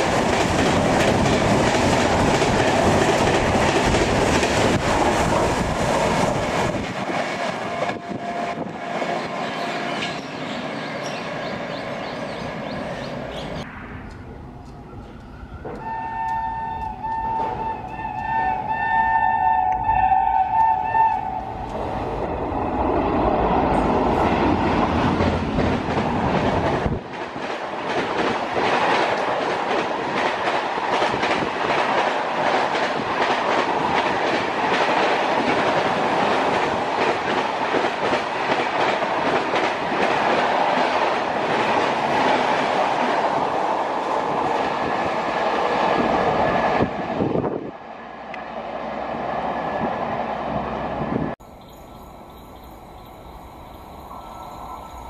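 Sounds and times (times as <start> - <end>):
train passing at speed: 0.0 - 55.0.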